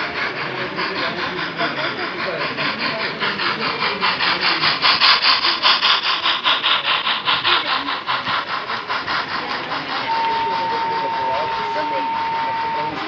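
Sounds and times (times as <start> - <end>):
model steam locomotive chuffing: 0.0 - 13.0.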